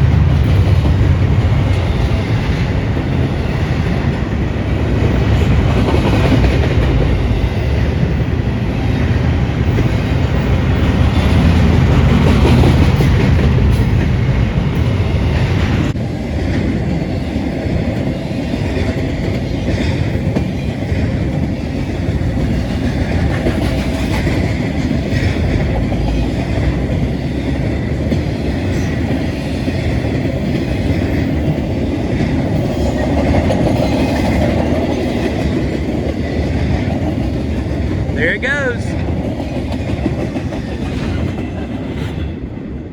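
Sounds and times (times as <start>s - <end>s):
train rumbling and clattering: 0.0s - 42.9s.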